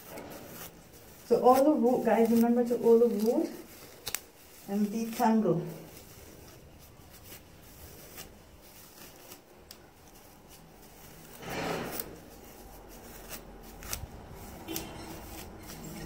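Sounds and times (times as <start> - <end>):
comb rustling through wet hair: 0.0 - 16.0.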